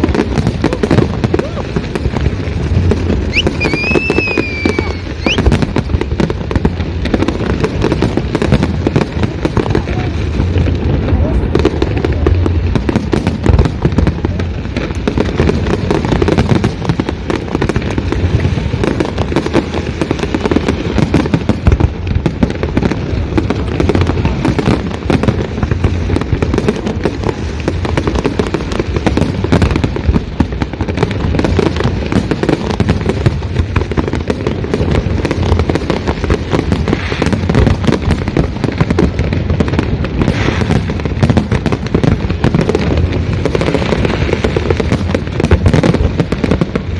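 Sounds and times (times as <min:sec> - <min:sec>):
fireworks bangs and booms: 0:00.0 - 0:46.9.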